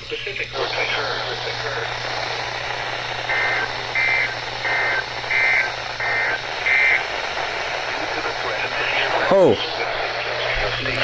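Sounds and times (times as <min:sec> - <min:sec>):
radio hiss: 0:00.0 - 0:11.0
buzzy two-tone data bursts: 0:00.4 - 0:10.6.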